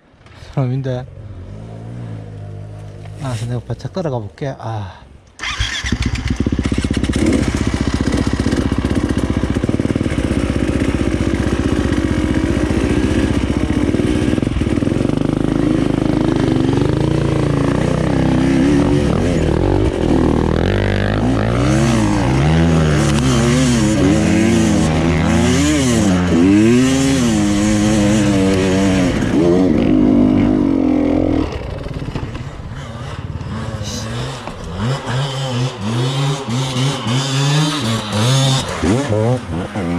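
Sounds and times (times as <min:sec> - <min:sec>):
motorcycle engine revving: 0:05.4 - 0:39.9.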